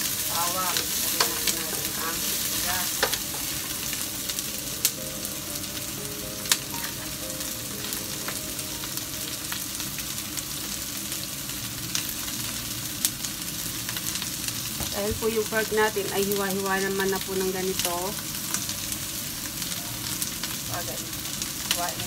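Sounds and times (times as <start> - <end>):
onion and garlic sizzling in oil: 0.0 - 22.0.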